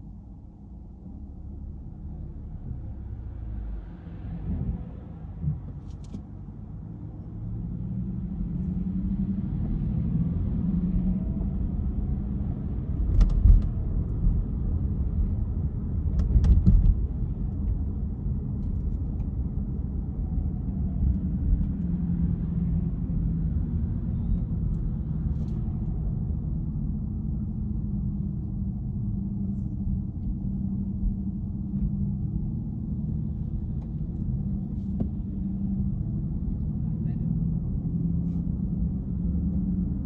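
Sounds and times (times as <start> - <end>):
car interior road rumble: 0.0 - 40.0
car going over bumps: 1.9 - 40.0.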